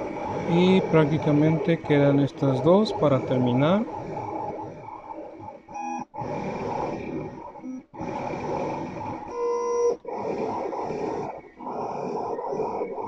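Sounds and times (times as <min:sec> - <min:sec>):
plotter motors whirring: 0:00.0 - 0:13.0.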